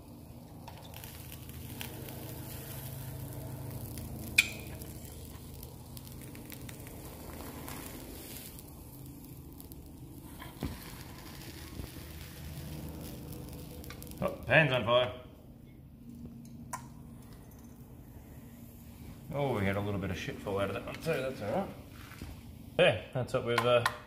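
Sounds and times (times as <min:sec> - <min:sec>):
molten metal sizzling and crackling: 0:00.0 - 0:22.8.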